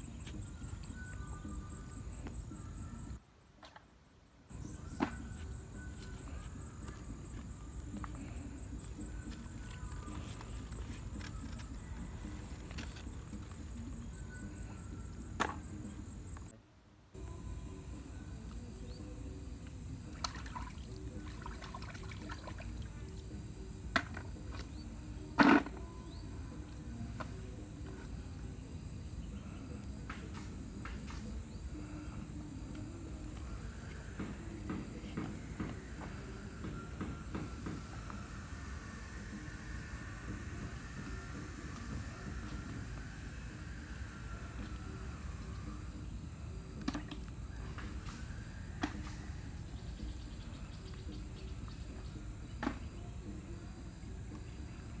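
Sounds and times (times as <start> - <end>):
high insect drone: 0.0 - 3.2, 4.5 - 16.5, 17.2 - 55.0.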